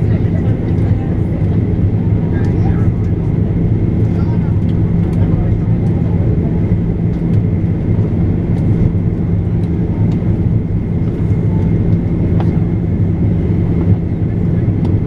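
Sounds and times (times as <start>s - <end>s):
airliner engine and airflow drone: 0.0s - 15.0s.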